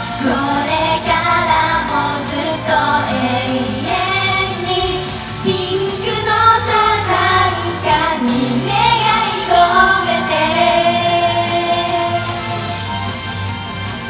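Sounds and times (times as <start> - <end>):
women singing pop: 0.0 - 12.8
pop backing track: 0.0 - 14.0.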